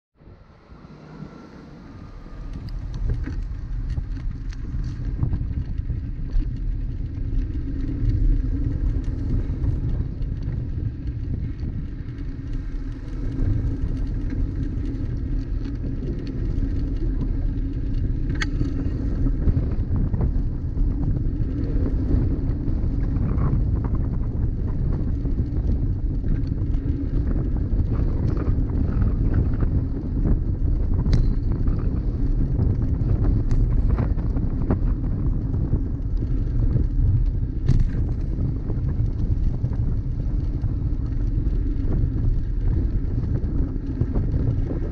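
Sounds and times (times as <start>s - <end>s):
wind buffeting microphone: 0.2s - 44.9s
bicycle knocks and rattles: 2.5s - 44.9s.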